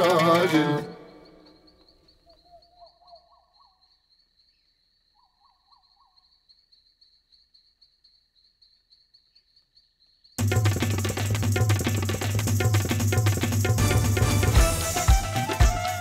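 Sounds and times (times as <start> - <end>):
pulsing insect trill: 0.0 - 16.0.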